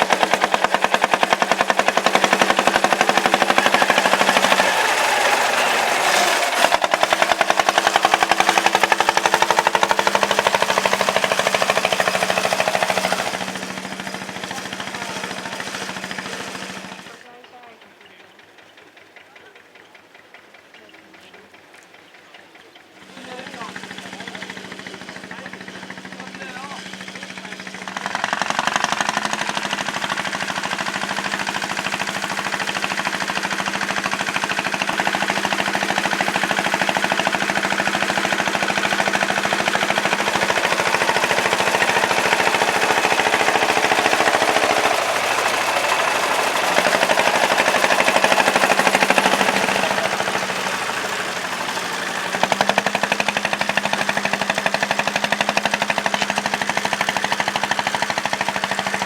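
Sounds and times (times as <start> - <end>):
tractor engine knocking: 0.0 - 59.0.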